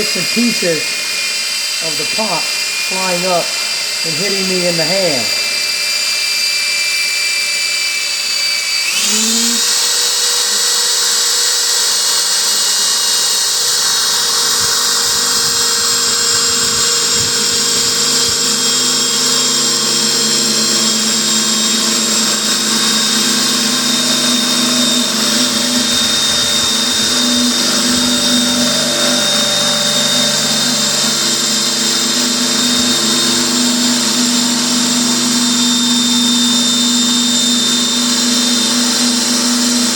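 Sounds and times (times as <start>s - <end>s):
electric drill boring ceramic: 0.0s - 39.9s.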